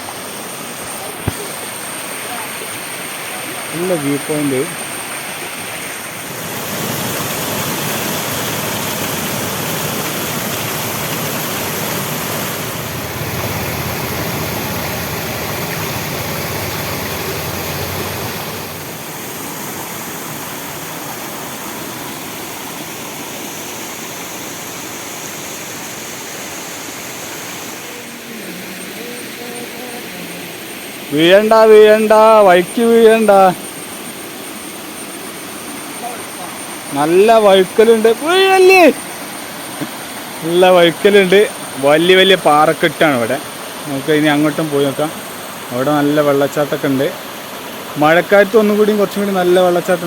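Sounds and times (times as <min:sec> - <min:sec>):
waterfall rushing water: 0:00.0 - 0:50.0.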